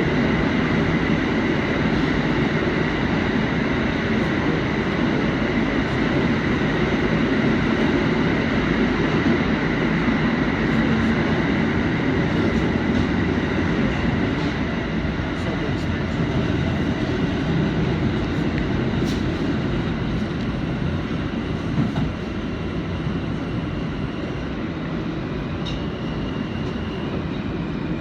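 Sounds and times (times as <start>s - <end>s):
subway car wheels rumbling: 0.0s - 28.0s.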